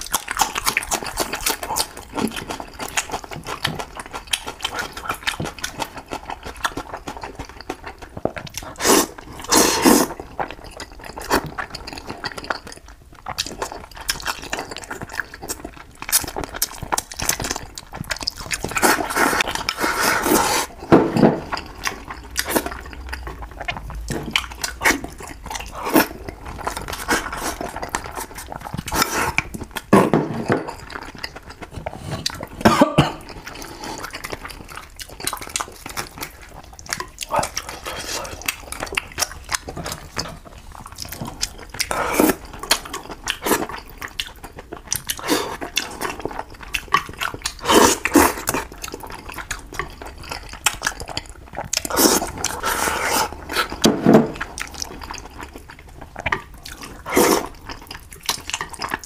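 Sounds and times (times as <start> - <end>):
wet chewing: 0.0 - 59.0
slurping: 6.6 - 32.6, 33.2 - 59.0.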